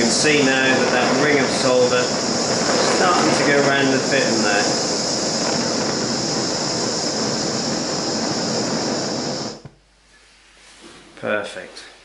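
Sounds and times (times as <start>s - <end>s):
blowtorch hissing: 0.0s - 9.7s.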